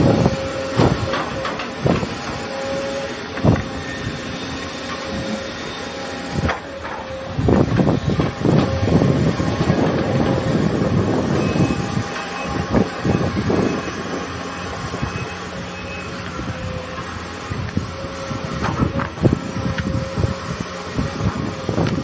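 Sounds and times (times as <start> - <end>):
distant machinery hum: 0.0 - 22.0
wind buffeting microphone: 0.0 - 22.0.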